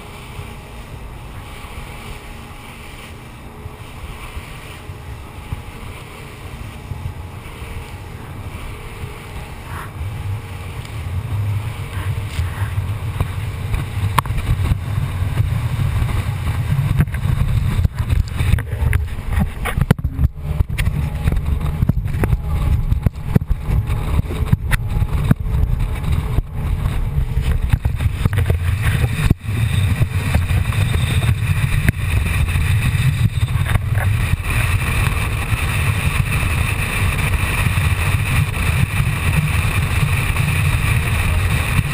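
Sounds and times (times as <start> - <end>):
muffled boat engine rumble: 0.0 - 41.9.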